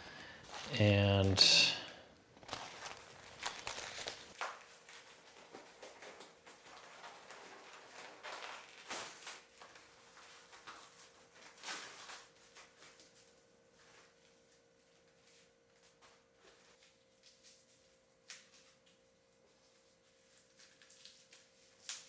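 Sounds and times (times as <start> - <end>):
packing material rustling: 0.0 - 0.8, 2.4 - 22.0
faint steady hum: 0.0 - 22.0.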